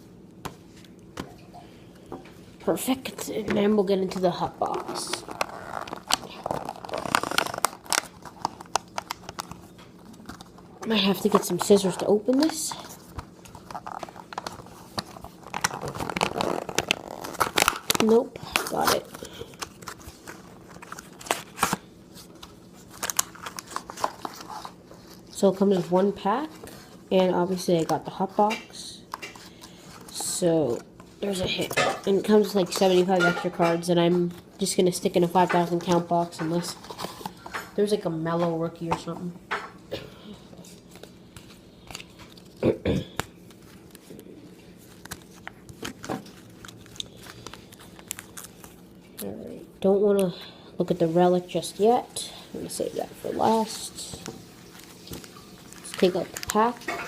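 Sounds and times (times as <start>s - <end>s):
cards and cardboard rustling: 2.7s - 39.1s, 43.2s - 49.4s, 52.6s - 57.0s.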